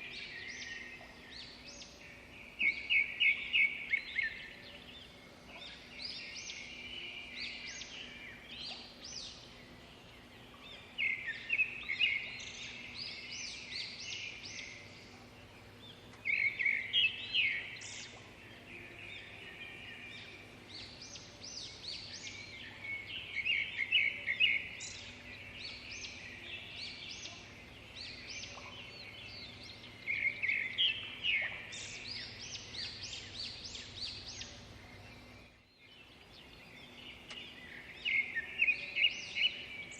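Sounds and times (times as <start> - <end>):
birds chirping and singing: 0.0 - 39.9
faint low hum: 0.0 - 39.9.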